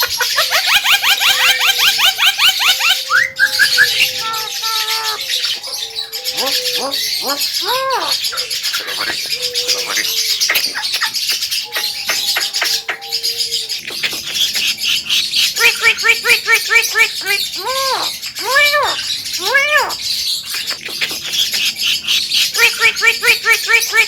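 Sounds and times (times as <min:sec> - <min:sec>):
myna bird singing: 0:00.0 - 0:24.0.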